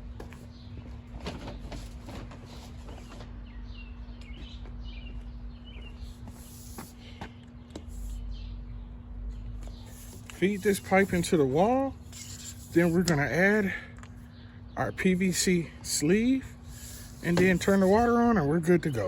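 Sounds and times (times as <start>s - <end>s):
steady low hum: 0.0s - 19.0s
birds chirping: 2.8s - 19.0s.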